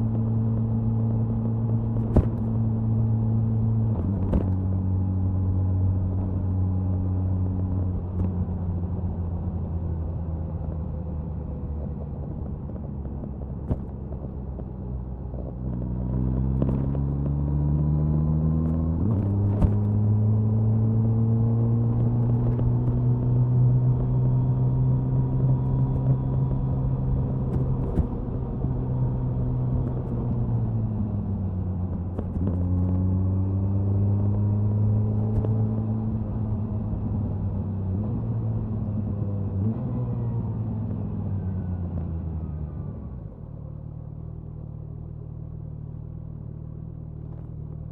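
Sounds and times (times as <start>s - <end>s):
motorcycle engine at speed: 0.0s - 47.9s.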